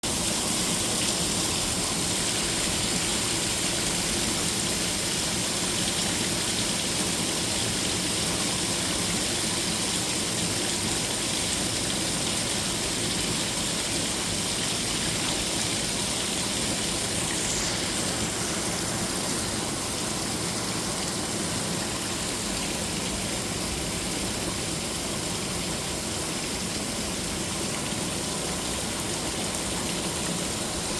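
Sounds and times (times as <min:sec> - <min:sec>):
running storm water: 0:00.0 - 0:30.9
steady rain: 0:00.0 - 0:30.9.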